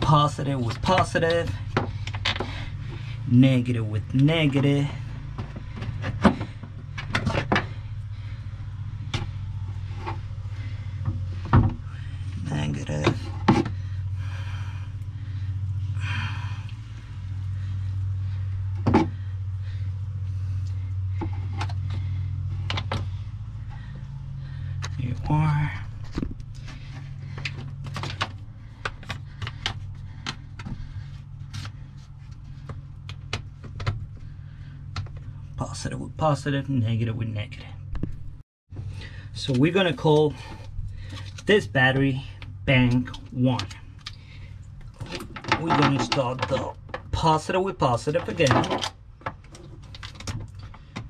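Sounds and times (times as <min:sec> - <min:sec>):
cables clicking and rattling: 0:00.0 - 0:35.6, 0:39.0 - 0:47.2, 0:48.0 - 0:51.0
steady low hum: 0:00.0 - 0:51.0.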